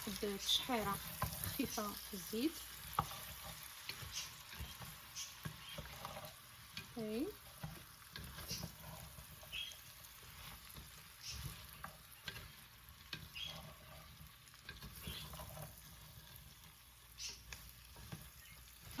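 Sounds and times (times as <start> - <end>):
utensil stirring and scraping: 0.0 - 19.0
vegetables sizzling in oil: 0.0 - 19.0.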